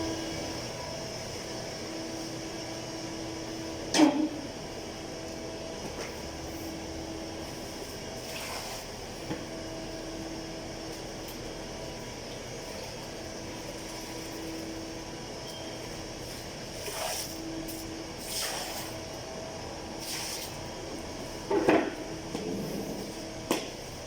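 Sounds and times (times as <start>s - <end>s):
droning hum: 0.0s - 24.0s.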